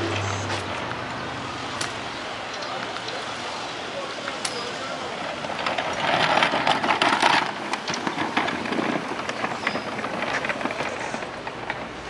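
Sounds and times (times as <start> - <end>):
trash can rolling over asphalt: 1.8 - 12.0.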